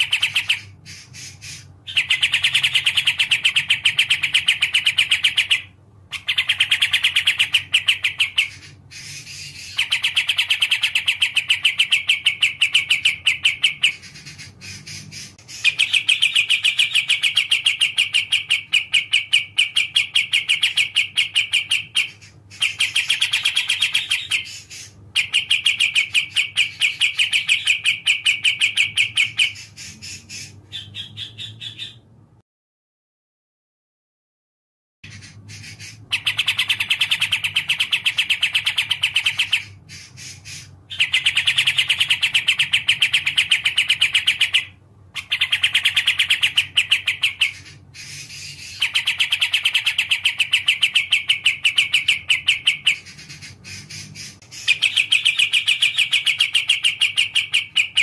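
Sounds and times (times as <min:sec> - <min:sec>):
songbird chattering trill: 0:00.0 - 0:32.1, 0:35.0 - 0:58.0.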